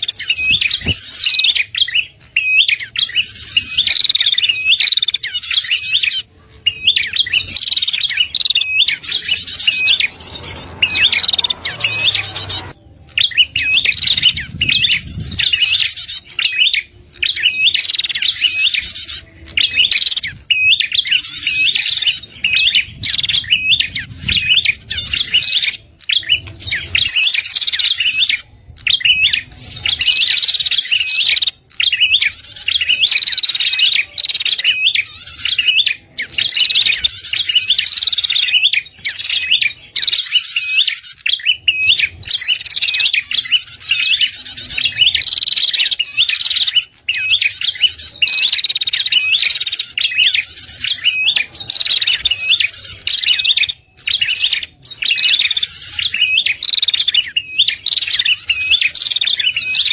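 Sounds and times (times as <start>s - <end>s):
bird song lure call: 0.0s - 59.9s.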